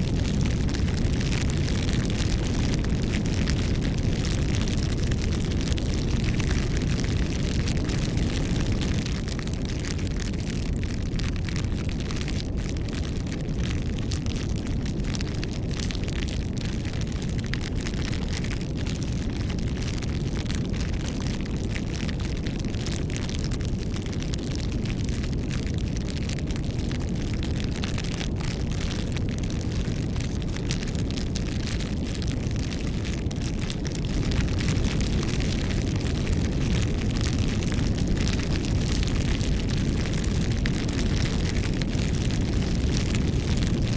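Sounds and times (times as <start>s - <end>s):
flames rumbling: 0.0s - 43.9s
wood crackling and popping: 0.0s - 43.9s.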